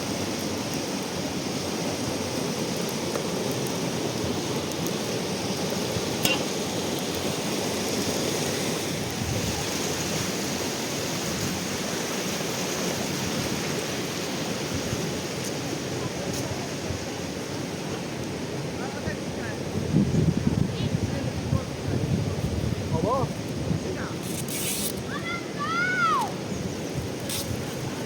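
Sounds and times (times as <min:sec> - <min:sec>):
river water rushing: 0:00.0 - 0:20.0, 0:22.7 - 0:28.0.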